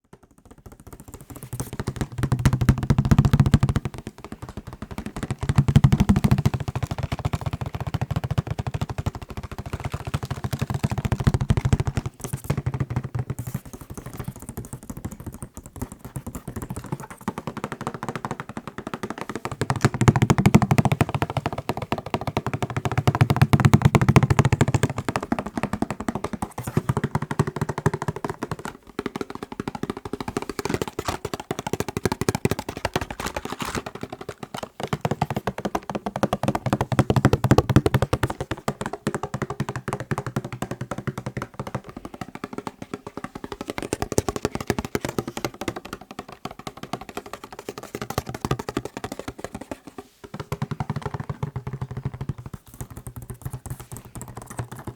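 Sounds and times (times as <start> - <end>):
fingertips tapping on macarons: 0.0 - 54.9.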